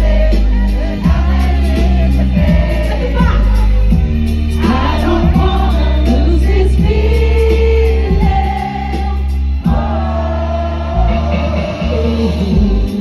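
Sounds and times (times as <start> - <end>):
heavy bass: 0.0 - 13.0
live pop ballad: 0.0 - 13.0.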